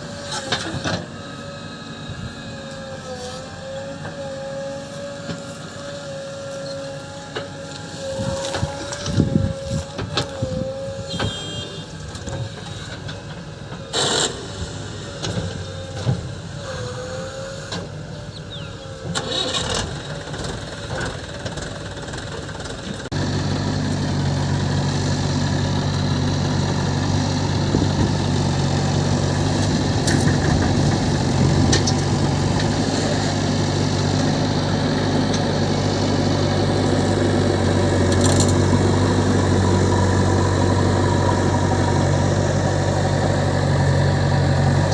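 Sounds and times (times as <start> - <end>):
diesel engine running: 0.0 - 44.9
machinery whine with knocks: 0.1 - 1.6, 2.3 - 18.2, 19.0 - 44.9.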